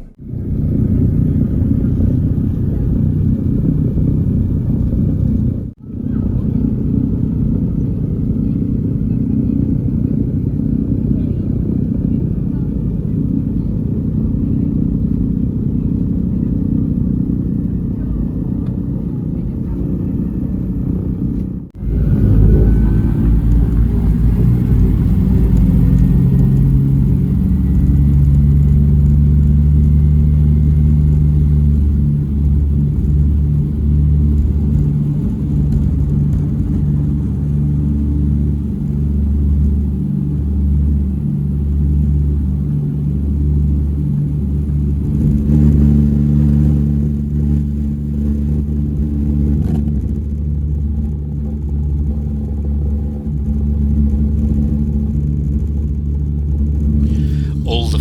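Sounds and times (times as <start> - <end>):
propeller plane engines droning: 0.0 - 55.1.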